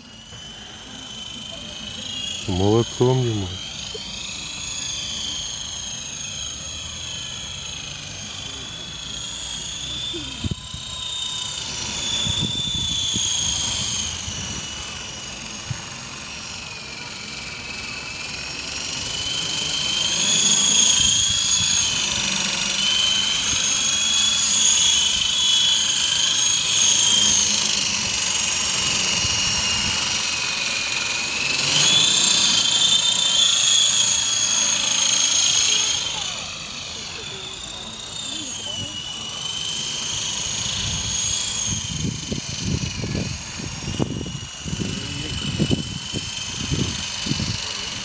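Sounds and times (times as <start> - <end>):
rc helicopter motor whine: 0.0 - 48.0.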